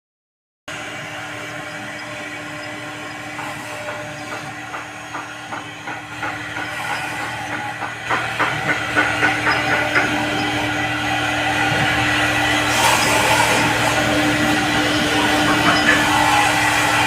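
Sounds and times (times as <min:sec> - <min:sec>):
router spindle cutting plastic: 0:00.7 - 0:17.0.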